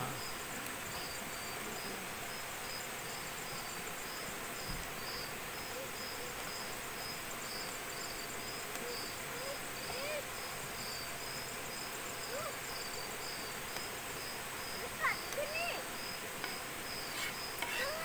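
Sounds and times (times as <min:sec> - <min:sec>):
constant high hiss: 0:00.0 - 0:18.0
crickets chirping: 0:00.0 - 0:18.0.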